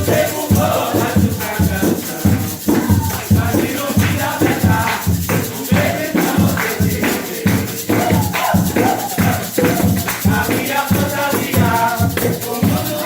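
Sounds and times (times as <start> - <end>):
shaker percussion: 0.0 - 13.0
upbeat music with fast beat: 0.0 - 13.0.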